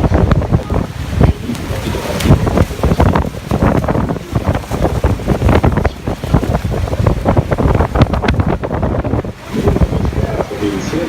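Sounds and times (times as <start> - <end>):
waterfall rushing water: 0.0 - 11.0
wind buffeting microphone: 0.0 - 11.0.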